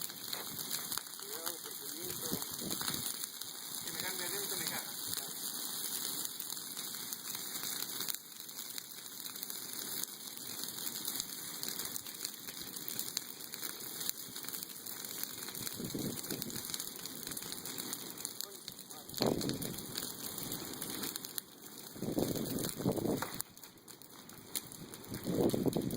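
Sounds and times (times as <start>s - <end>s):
bonfire crackling: 0.0s - 25.9s.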